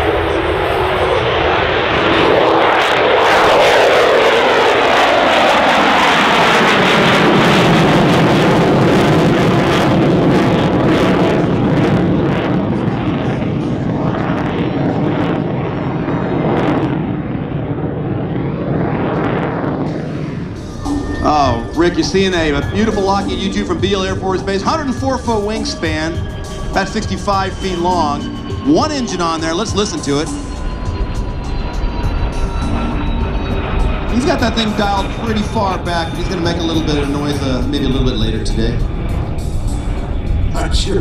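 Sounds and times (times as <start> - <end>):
jet aircraft taking off overhead: 0.0 - 41.0.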